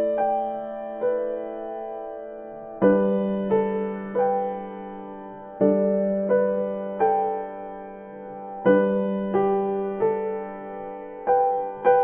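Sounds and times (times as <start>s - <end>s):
soft slow piano music: 0.0s - 12.0s.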